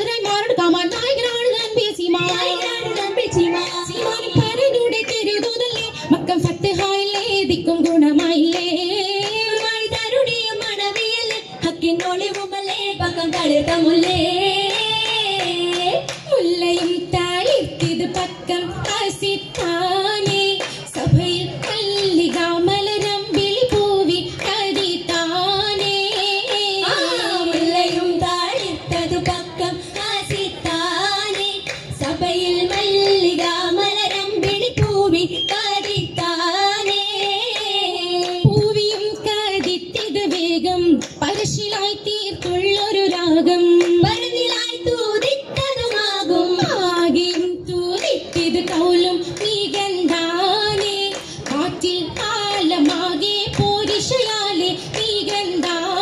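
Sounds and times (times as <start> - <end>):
rhythmic hand-clapping: 0.0 - 56.0
women singing: 0.0 - 56.0.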